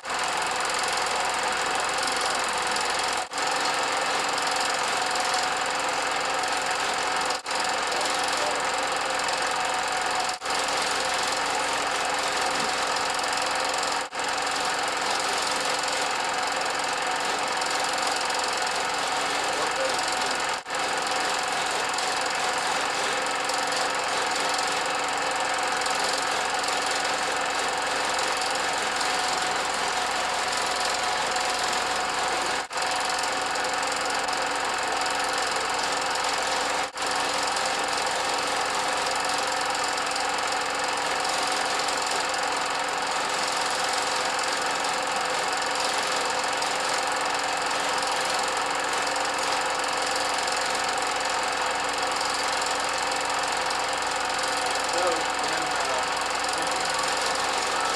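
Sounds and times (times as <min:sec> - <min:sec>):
rapid mechanical clatter: 0:00.0 - 0:57.9.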